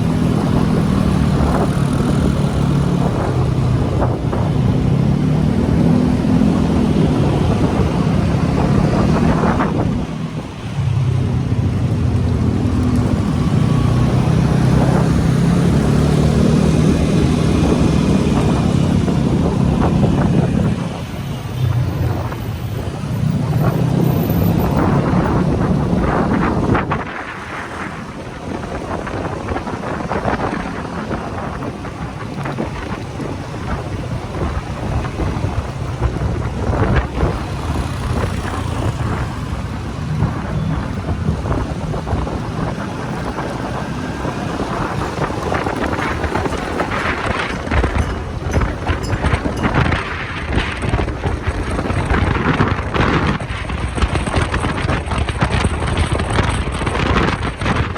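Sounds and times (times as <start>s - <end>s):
motorcycle engine running: 0.0s - 57.9s
wind noise on microphone: 0.0s - 57.9s.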